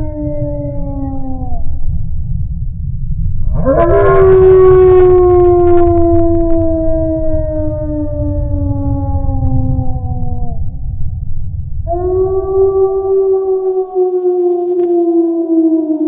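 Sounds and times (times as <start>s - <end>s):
wolf howling: 0.0s - 1.7s, 3.5s - 10.7s, 11.9s - 16.0s
steady low rumble: 0.0s - 16.0s.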